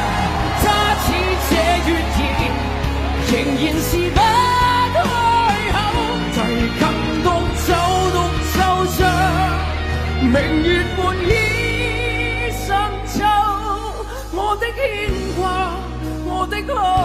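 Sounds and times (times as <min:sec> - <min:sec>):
bass: 0:00.0 - 0:17.0
man singing pop ballad: 0:00.0 - 0:17.0.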